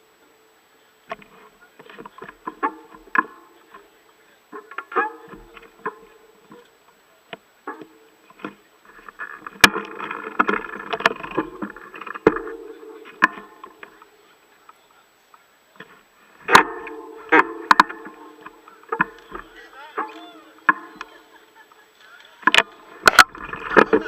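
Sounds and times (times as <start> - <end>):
mountain bike clattering: 1.1 - 15.0, 15.7 - 24.0.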